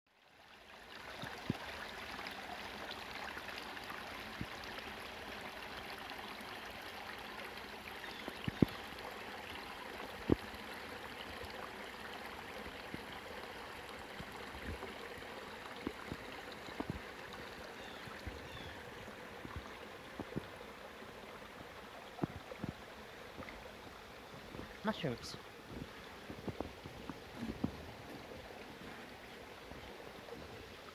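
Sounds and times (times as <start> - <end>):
stream trickling: 0.1 - 30.9.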